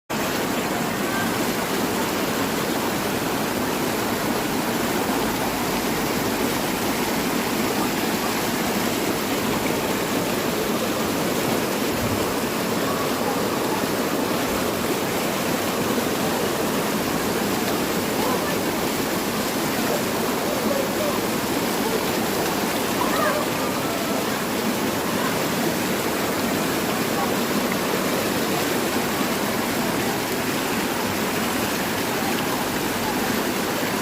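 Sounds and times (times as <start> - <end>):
stream rushing over rocks: 0.1 - 34.0.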